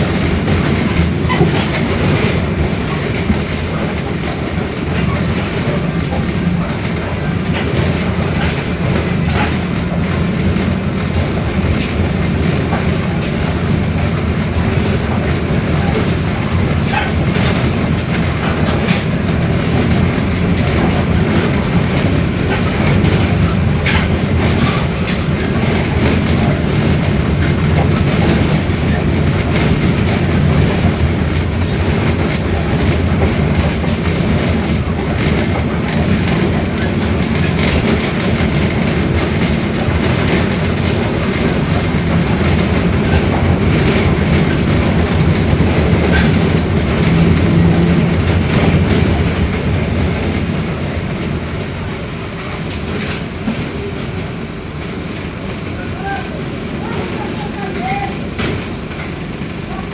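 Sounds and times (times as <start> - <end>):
bodywork rattles and clicks: 0.0 - 56.2
bus engine drone: 0.0 - 59.9.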